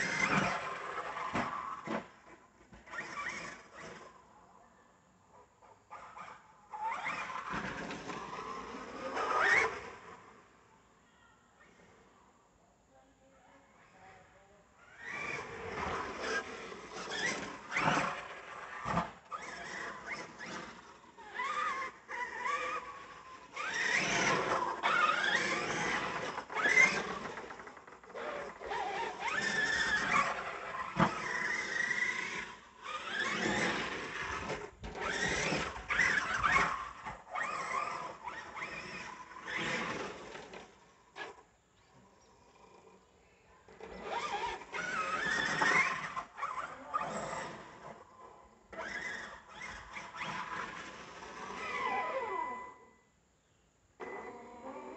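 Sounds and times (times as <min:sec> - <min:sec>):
rc car electric motor whining: 0:00.0 - 0:04.2, 0:05.9 - 0:10.6, 0:14.8 - 0:43.0, 0:43.7 - 0:53.0.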